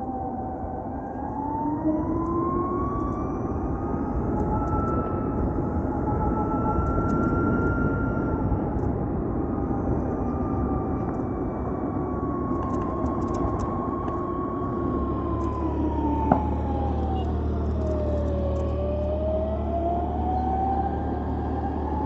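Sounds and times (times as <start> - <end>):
wind and road noise: 0.0 - 22.0.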